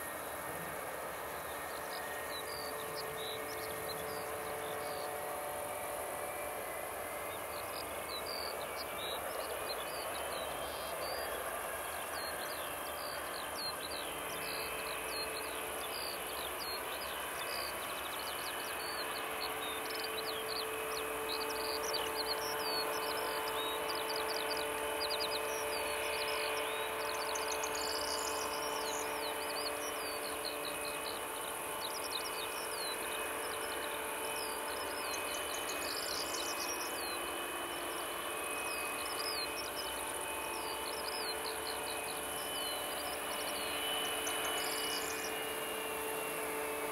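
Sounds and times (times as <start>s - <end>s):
jet engines humming: 0.0s - 46.9s.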